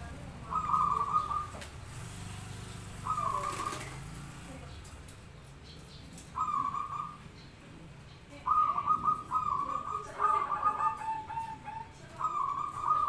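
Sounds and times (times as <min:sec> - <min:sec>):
doves cooing: 0:00.0 - 0:04.9, 0:05.8 - 0:13.0.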